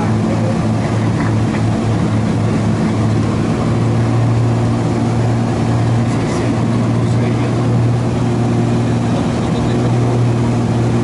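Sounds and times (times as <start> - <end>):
aircraft engine drone in cabin: 0.0 - 11.0.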